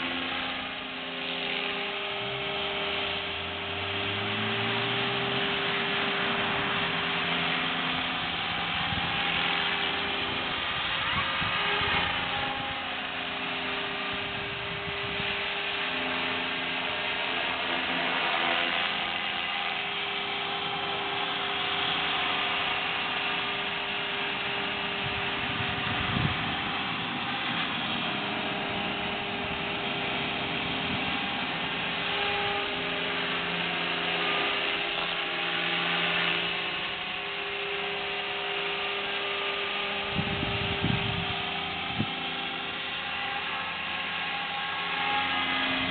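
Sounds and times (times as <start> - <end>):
rc helicopter motor whine: 0.0 - 45.9
rotor blades rushing: 0.0 - 45.9.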